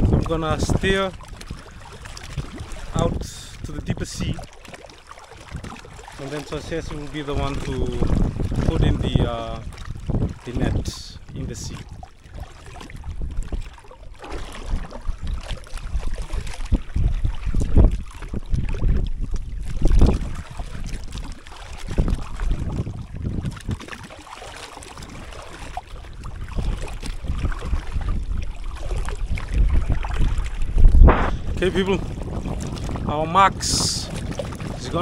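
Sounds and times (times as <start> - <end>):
water sloshing around raft: 0.0 - 35.0
wind buffeting microphone: 0.0 - 35.0.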